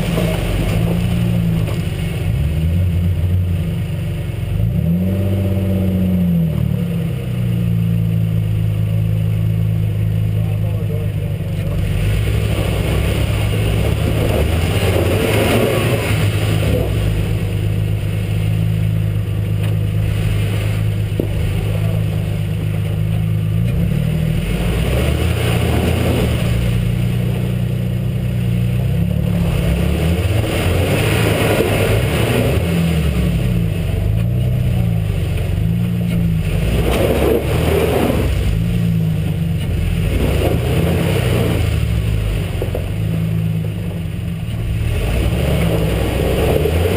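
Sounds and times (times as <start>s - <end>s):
rushes of rumbling noise: 0.0s - 46.9s
truck engine droning: 0.0s - 46.9s.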